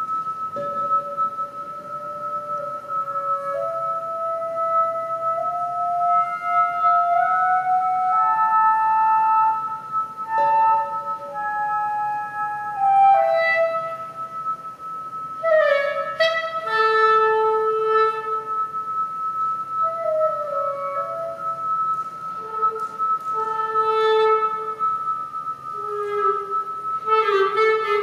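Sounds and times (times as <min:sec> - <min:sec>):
clarinet playing: 0:00.0 - 0:28.0.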